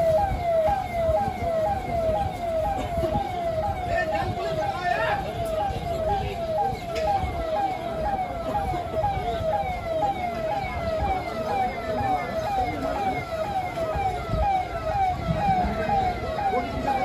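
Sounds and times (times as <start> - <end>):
electronic siren wailing: 0.0 - 17.0.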